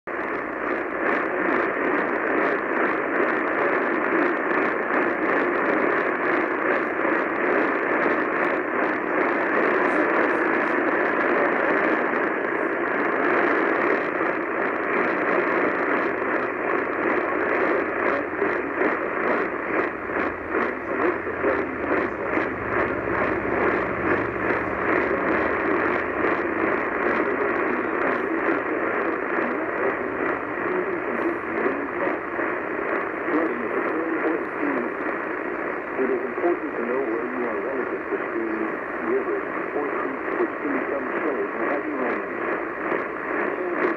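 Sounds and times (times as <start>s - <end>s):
radio static hiss and crackle: 0.1s - 43.9s.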